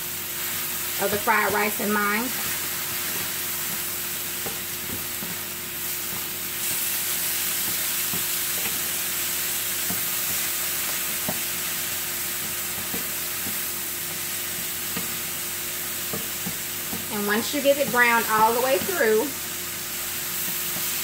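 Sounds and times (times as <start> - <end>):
rice sizzling in a hot pan: 0.0 - 21.0
spatulas tapping a pan: 0.5 - 19.3, 20.4 - 21.0.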